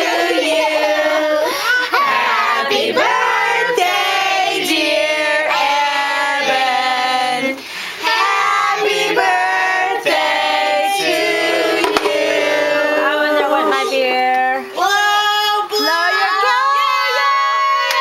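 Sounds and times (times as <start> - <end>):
group singing together: 0.0 - 14.8.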